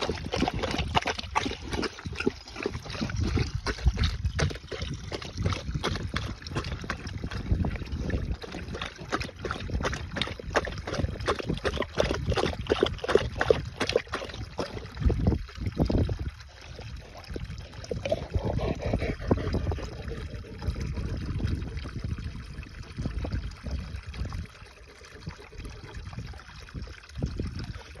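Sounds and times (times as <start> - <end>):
dog lapping water: 0.0 - 28.0
water pouring from spout: 0.0 - 28.0.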